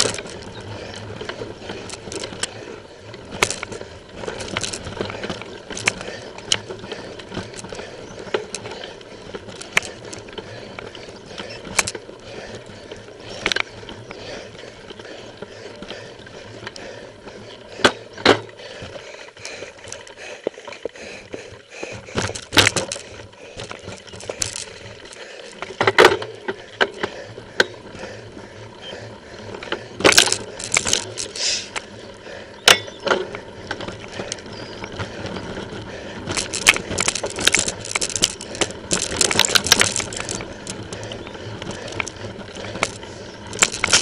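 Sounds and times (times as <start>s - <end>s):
mountain bike parts clattering: 0.0s - 15.0s, 21.8s - 28.1s, 29.4s - 32.0s, 32.6s - 44.0s.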